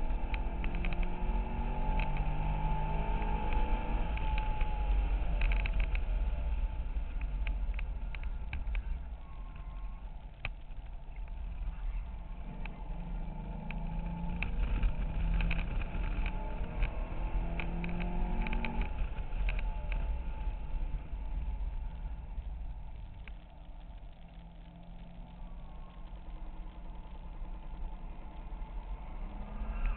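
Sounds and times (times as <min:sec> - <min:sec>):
car engine revving: 0:00.0 - 0:10.2, 0:11.2 - 0:23.4, 0:24.2 - 0:29.9.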